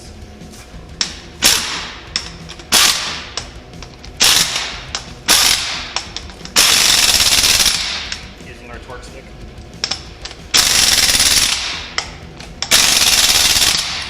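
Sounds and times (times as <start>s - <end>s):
impact wrench hammering: 1.0s - 8.3s, 9.8s - 14.0s.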